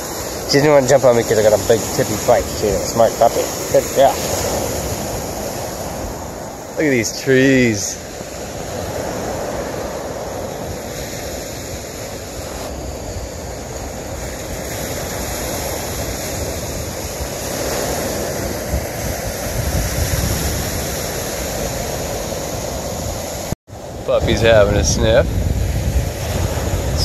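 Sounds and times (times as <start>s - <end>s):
waves washing onto beach: 0.0s - 27.0s
wind buffeting microphone: 0.0s - 27.0s.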